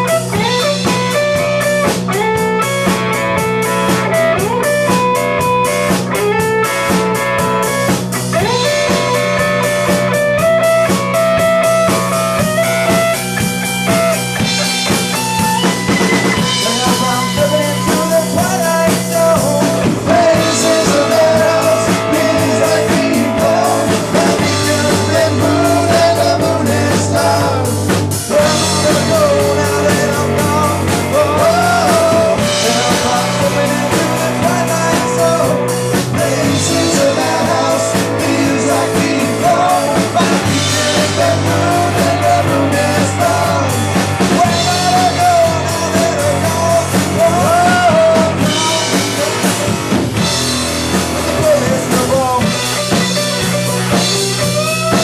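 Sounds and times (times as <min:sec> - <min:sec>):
bass guitar: 0:00.0 - 0:55.0
drums: 0:00.0 - 0:55.0
electric guitar lead: 0:00.0 - 0:55.0.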